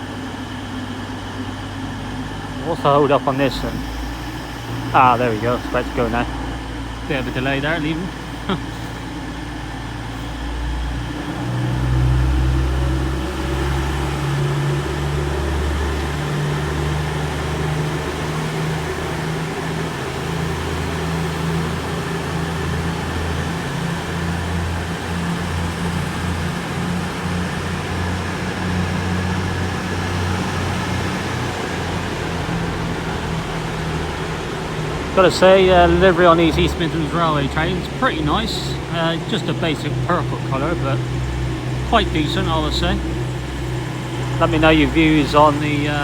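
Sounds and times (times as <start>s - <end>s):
train diesel engines throbbing: 0.0s - 46.0s.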